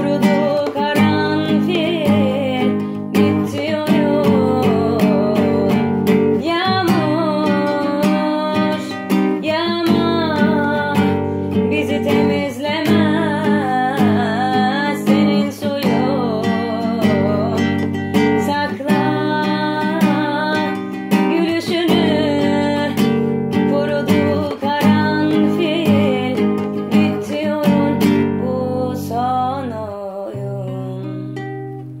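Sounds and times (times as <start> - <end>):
acoustic guitar strumming chords: 0.0 - 32.0.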